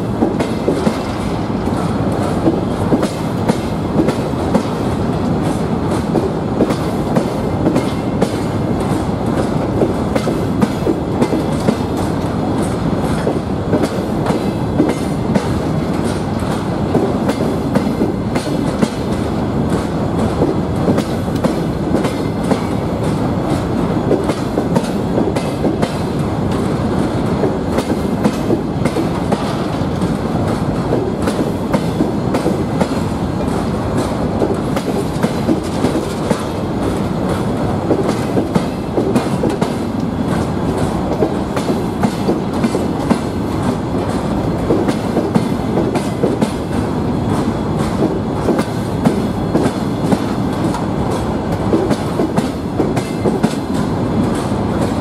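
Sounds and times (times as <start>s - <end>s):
train wheels rumbling on rails: 0.0s - 55.0s
wheels clicking over rail joints: 0.2s - 26.7s, 27.4s - 55.0s.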